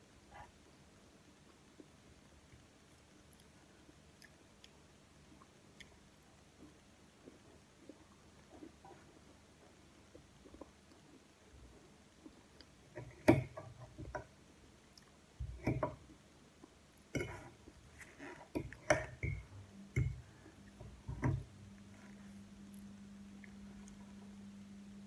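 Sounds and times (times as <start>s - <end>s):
low steady hum: 0.0s - 25.0s
soft chewing: 0.2s - 24.9s.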